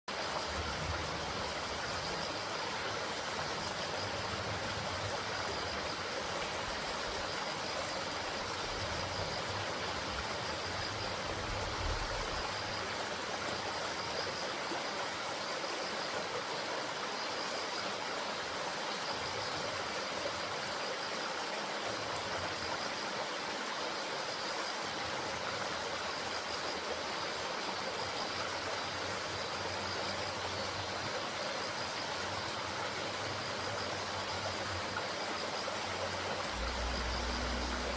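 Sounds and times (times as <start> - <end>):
stream flowing: 0.1 - 37.9.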